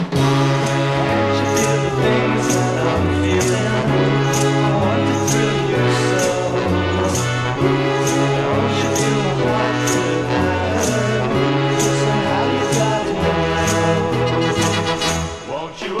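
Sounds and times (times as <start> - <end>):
bass line: 0.0 - 15.6.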